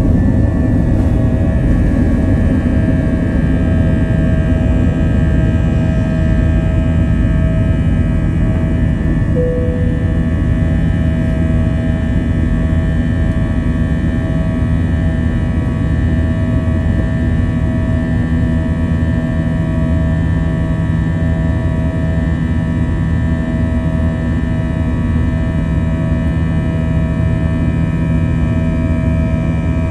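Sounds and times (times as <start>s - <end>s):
jet engines rumbling in cabin: 0.0s - 29.9s.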